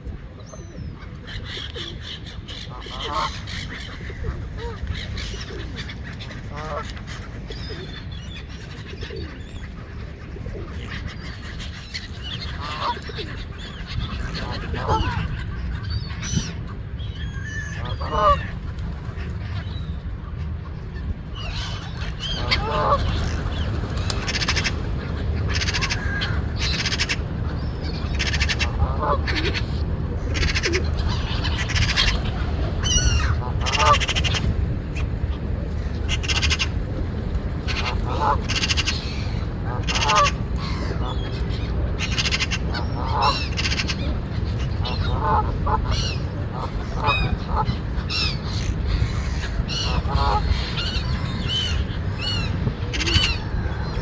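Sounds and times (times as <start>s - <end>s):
steady low rumble: 0.0s - 54.0s
birds calling: 0.4s - 54.0s.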